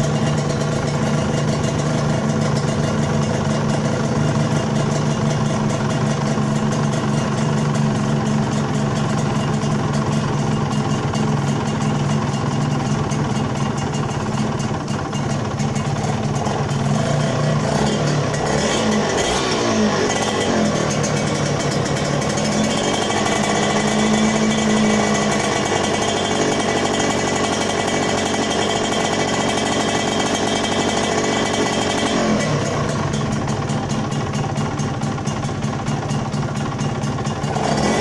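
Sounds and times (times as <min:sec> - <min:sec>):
two-stroke engine running: 0:00.0 - 0:38.0.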